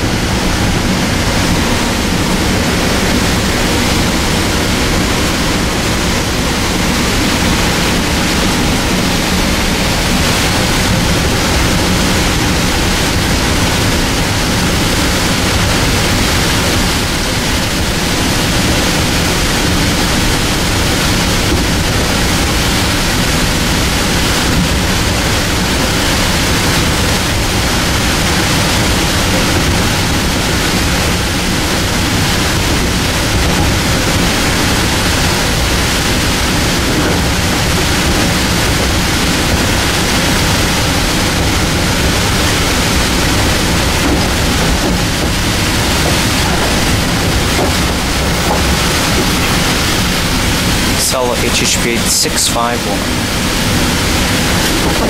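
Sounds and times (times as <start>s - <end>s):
electric train running: 0.0s - 51.6s, 52.8s - 55.0s.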